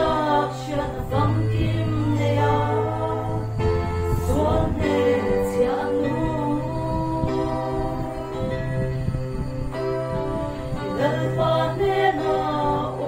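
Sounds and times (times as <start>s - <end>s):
women singing together: 0.0s - 8.6s, 10.8s - 13.0s
backing music with bass notes: 0.0s - 13.0s.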